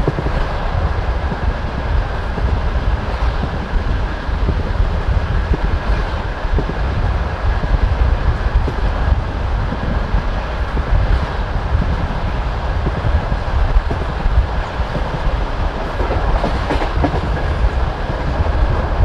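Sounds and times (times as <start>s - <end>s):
train wheels rumbling on rail: 0.0s - 19.0s
wheels clicking and knocking: 0.0s - 19.0s.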